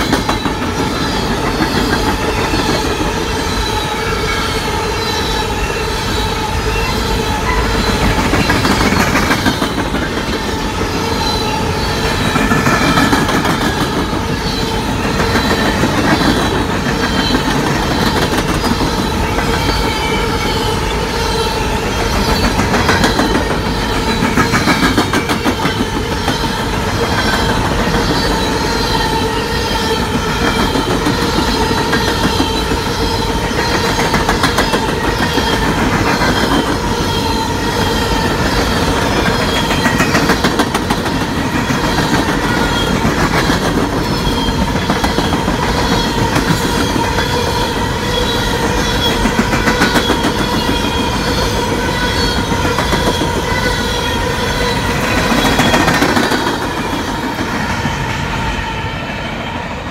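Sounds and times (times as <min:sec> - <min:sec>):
train wheels clattering: 0:00.0 - 0:59.9.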